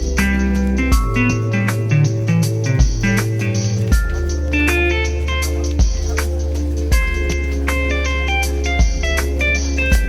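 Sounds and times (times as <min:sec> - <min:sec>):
guitar instrumental with bass and beat: 0:00.0 - 0:10.0.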